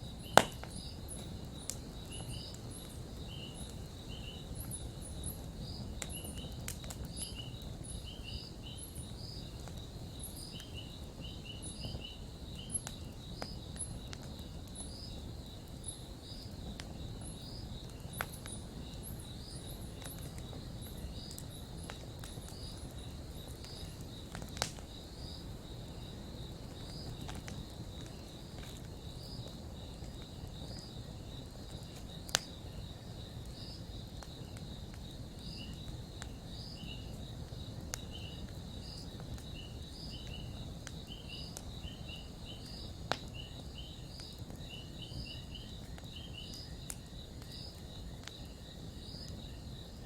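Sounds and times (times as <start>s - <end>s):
campfire crackling and popping: 0.0s - 50.0s
insects chirping: 0.0s - 50.0s.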